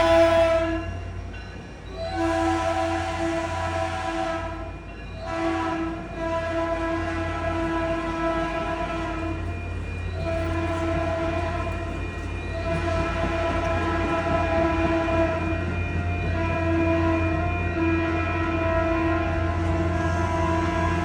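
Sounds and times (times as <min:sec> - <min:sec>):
locomotive air horn blasts: 0:00.0 - 0:00.9, 0:02.0 - 0:09.5, 0:10.2 - 0:12.0, 0:12.6 - 0:21.0.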